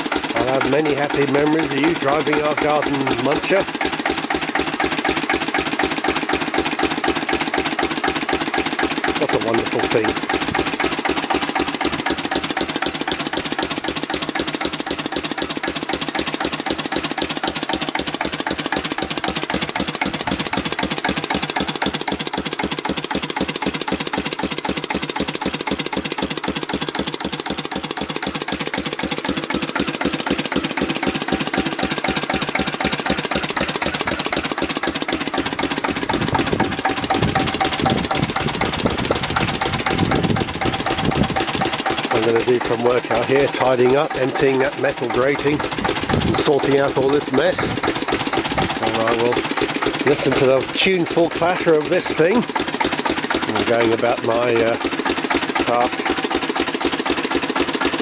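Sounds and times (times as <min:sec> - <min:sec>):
diesel engine clattering: 0:00.0 - 0:58.0.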